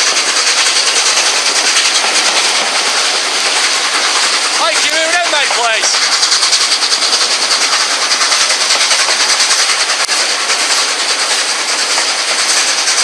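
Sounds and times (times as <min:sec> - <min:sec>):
train wheel and air rush: 0:00.0 - 0:13.0.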